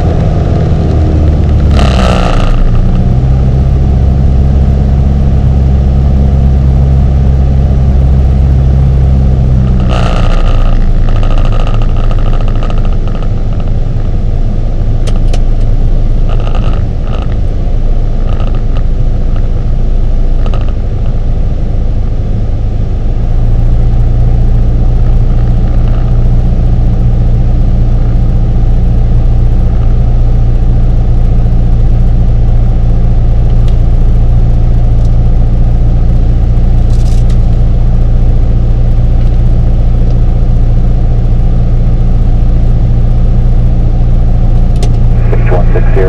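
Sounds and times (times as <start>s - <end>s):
airplane engine and propeller drone: 0.0s - 46.0s.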